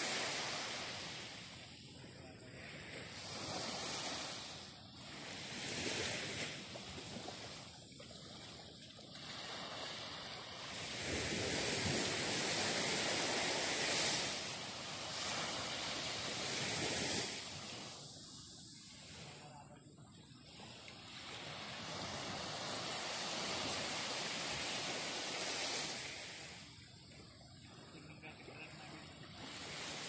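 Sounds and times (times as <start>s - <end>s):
small waves washing on sand: 0.0s - 30.0s.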